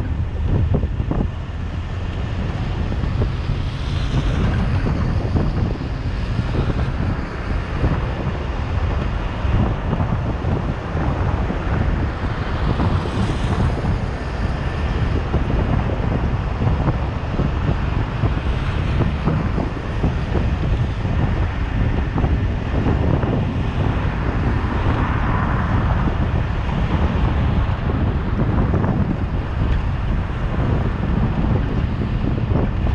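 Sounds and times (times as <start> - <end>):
passing traffic: 0.0 - 32.9
wind buffeting microphone: 0.0 - 32.9.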